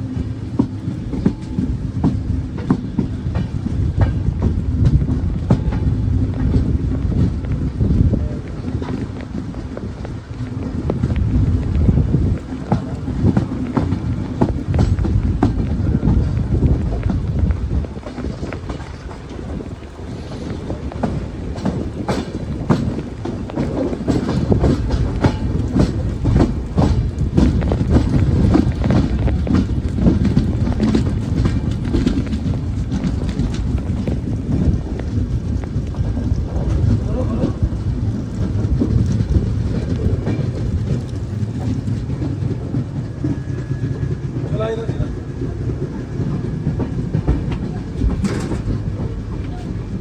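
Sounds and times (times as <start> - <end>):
train rumbling: 0.0 - 50.0
wheels clattering over rails: 0.0 - 50.0.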